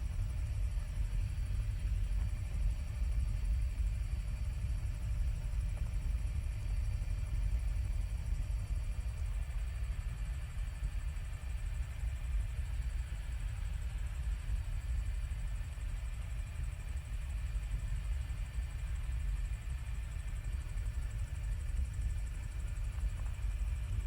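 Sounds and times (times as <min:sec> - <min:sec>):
faint high whine: 0:00.0 - 0:24.0
helicopter low rumble: 0:00.0 - 0:24.0.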